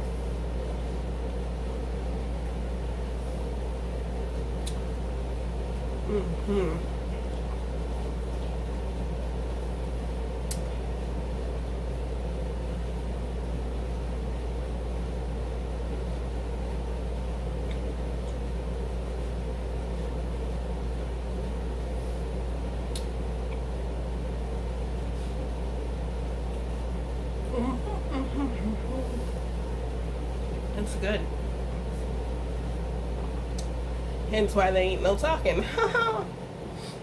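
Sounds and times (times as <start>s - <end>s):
air conditioner fan humming: 0.0s - 37.0s.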